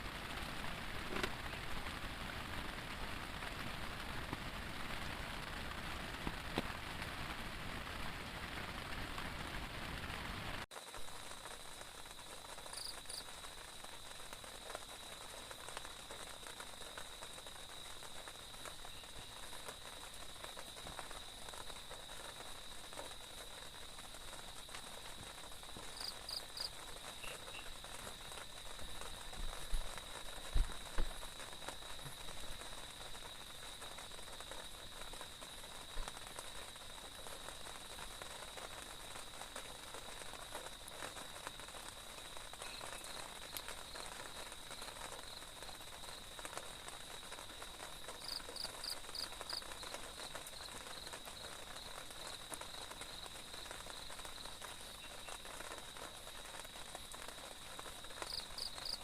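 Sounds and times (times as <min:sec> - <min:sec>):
insects droning: 0:11.0 - 0:59.0.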